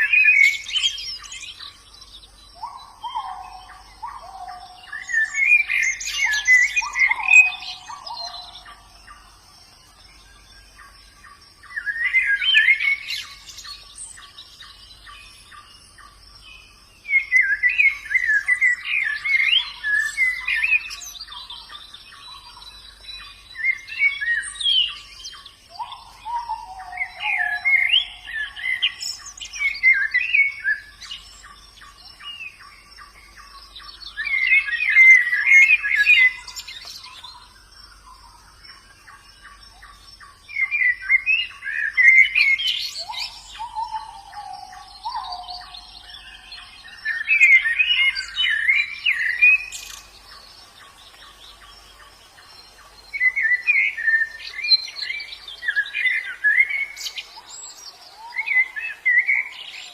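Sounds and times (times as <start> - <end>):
birds twittering warbles: 0.0 - 59.9.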